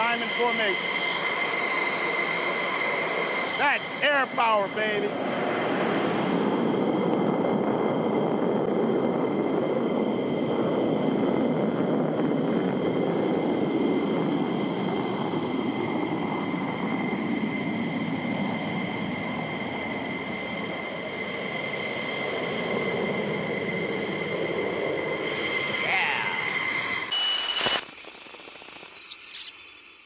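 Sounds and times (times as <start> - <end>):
jet engines roaring: 0.0 - 29.5
high turbine whine: 0.0 - 30.0.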